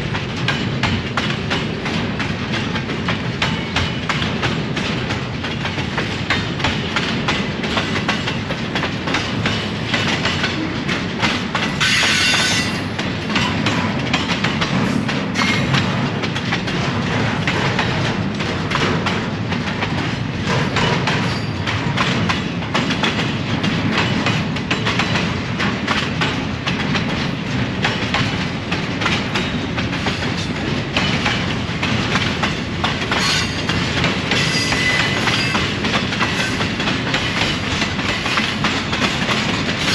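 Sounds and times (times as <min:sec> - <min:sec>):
train rumble: 0:00.0 - 0:39.9
wheels clacking over rails: 0:00.0 - 0:39.9.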